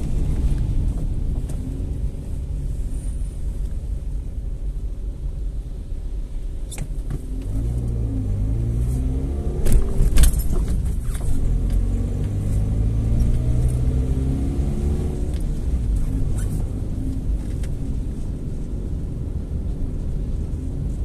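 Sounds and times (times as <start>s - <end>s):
car engine hum: 0.0s - 21.0s.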